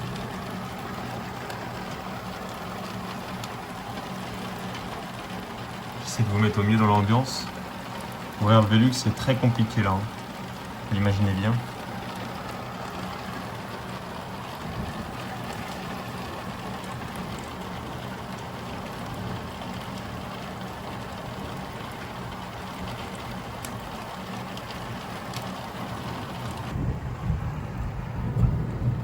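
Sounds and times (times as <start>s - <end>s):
faint ticks: 0.0s - 26.7s
heavy rain on a roof: 0.0s - 29.0s.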